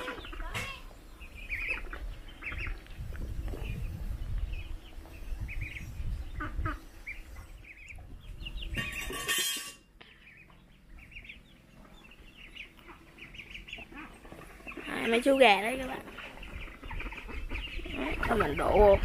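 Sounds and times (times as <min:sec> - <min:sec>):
chicks peeping and clucking: 0:00.0 - 0:19.0.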